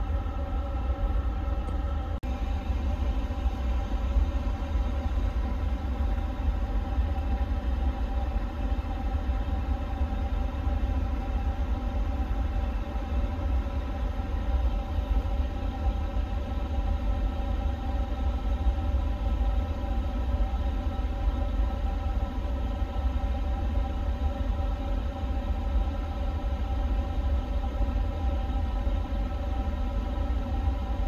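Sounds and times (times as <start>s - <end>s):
ventilation fans humming: 0.0s - 31.0s.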